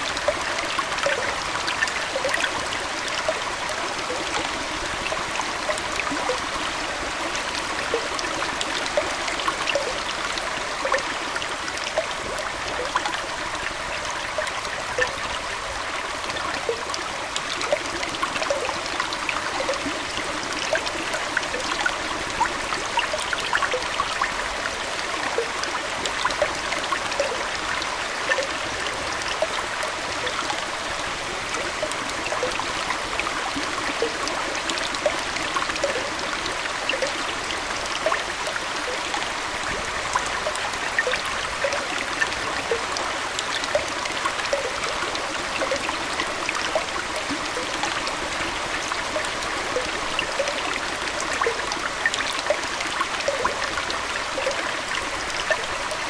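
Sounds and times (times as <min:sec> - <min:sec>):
aquarium water trickling: 0:00.0 - 0:56.0
small pops and drips: 0:00.0 - 0:56.0.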